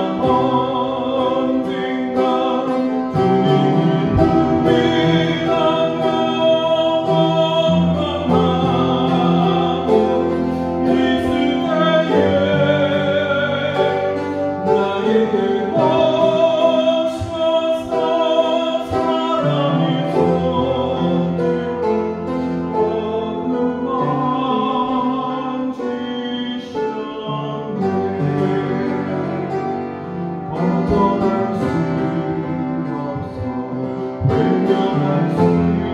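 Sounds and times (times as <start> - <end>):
man singing worship song: 0.0 - 35.9
upright piano: 0.0 - 35.9.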